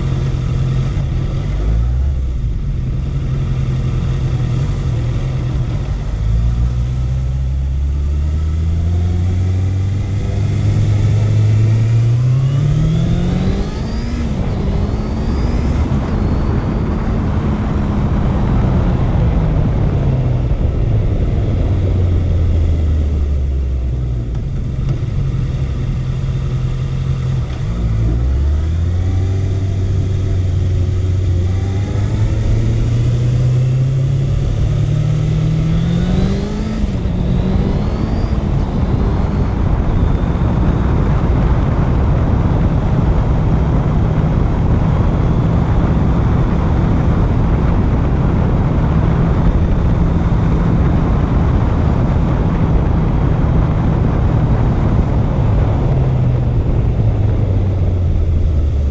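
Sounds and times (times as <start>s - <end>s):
broad rush of noise: 0.0s - 58.9s
motorcycle engine revving: 0.0s - 58.9s.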